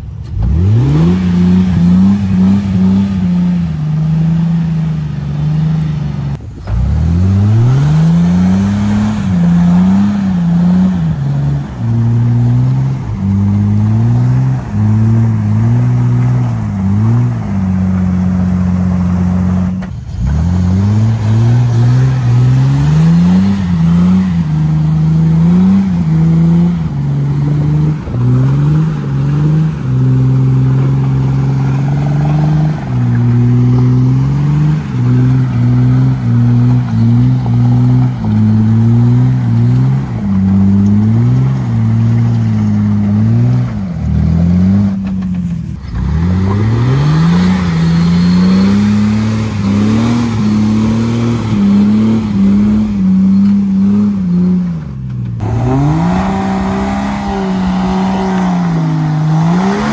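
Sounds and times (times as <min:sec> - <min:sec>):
engine revving hard: 0:00.4 - 0:45.0, 0:45.8 - 0:54.6, 0:55.4 - 0:59.9.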